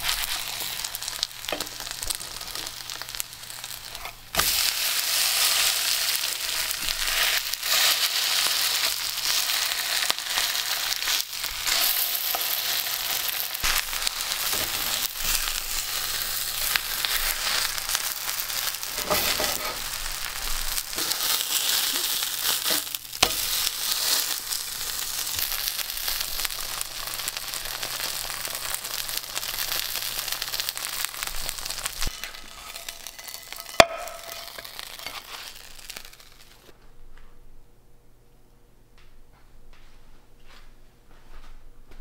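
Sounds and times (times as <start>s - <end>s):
pancake sizzling in oil: 0.0s - 36.7s.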